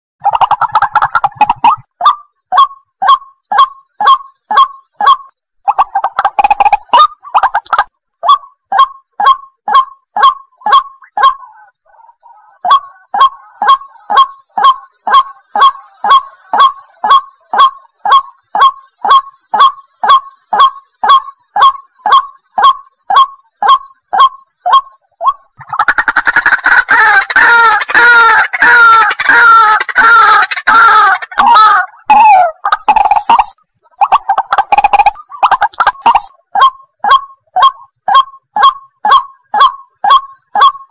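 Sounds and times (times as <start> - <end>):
chorus of bird calls: 0.2 - 40.9
waterhen downward-sliding calls: 0.2 - 40.9.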